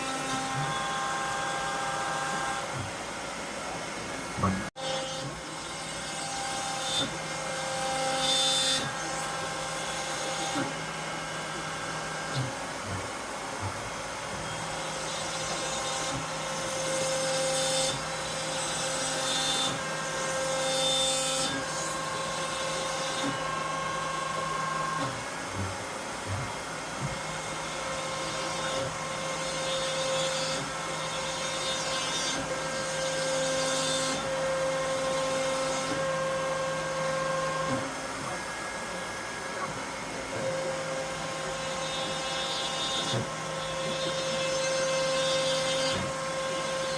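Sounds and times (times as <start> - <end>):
cnc router machine whine: 0.0 - 46.9.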